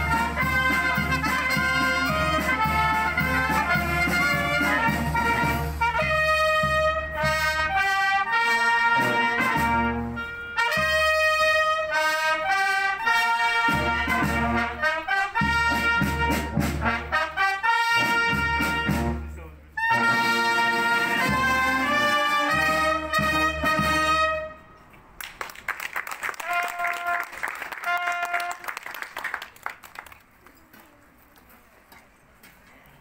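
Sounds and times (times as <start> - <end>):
brass band playing slow tune: 0.0 - 24.8, 26.4 - 28.8.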